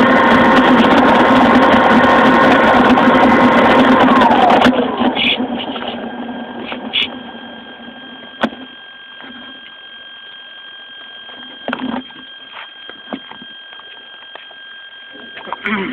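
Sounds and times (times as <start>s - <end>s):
high-pitched electronic whine: 0.0s - 15.9s
low motor hum: 0.0s - 15.9s.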